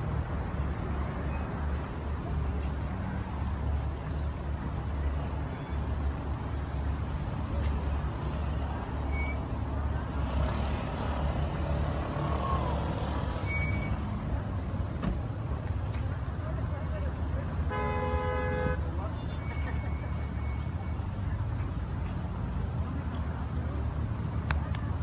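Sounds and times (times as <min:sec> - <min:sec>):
traffic engines rumbling: 0:00.0 - 0:25.0.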